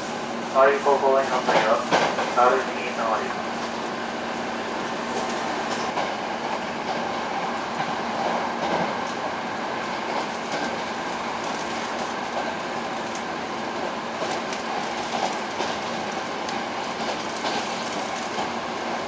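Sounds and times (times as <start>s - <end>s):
train running inside carriage: 0.0s - 19.0s.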